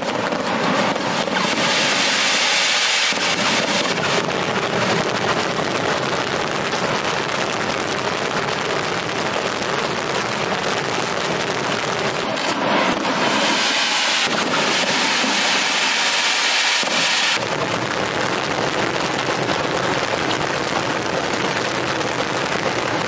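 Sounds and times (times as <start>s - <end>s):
fireworks banging and cracking: 0.0s - 23.0s.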